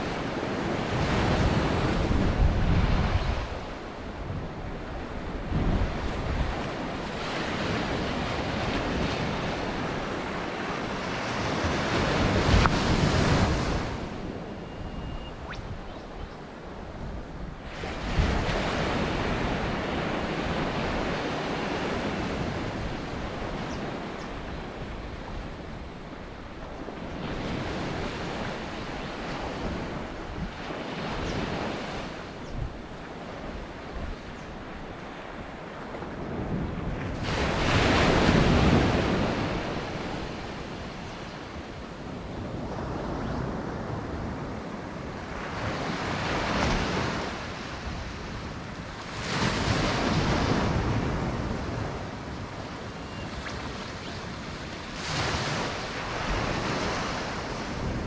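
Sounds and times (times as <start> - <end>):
ocean surf breaking on beach: 0.0 - 58.0
wind buffeting microphone: 0.0 - 58.0.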